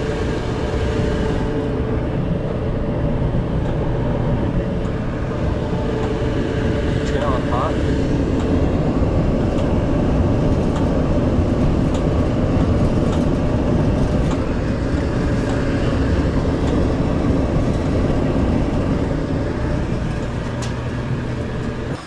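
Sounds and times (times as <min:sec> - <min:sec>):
dryer drum rumbling: 0:00.0 - 0:22.0.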